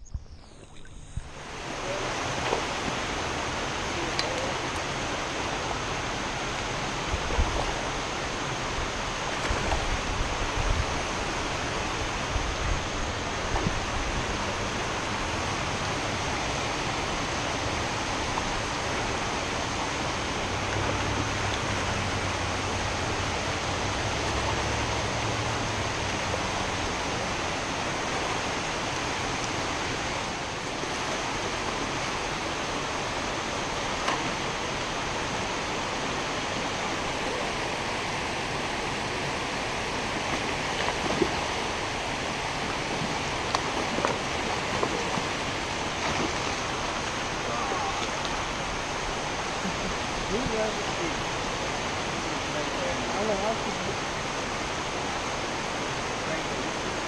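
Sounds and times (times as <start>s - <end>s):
creek water rushing over rocks: 0.6s - 57.0s.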